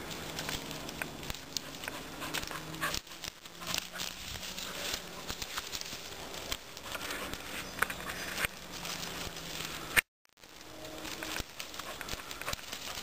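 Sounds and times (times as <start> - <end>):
twigs snapping underfoot: 0.0 - 13.0.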